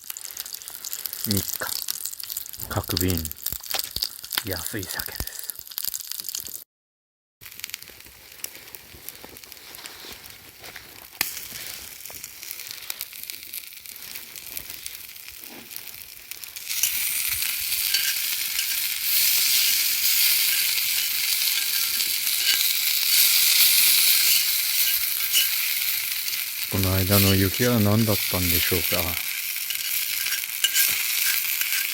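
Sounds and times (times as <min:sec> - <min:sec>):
fire crackling: 0:00.0 - 0:06.6, 0:07.4 - 0:31.9
food sizzling over campfire: 0:00.0 - 0:06.7, 0:07.4 - 0:31.9.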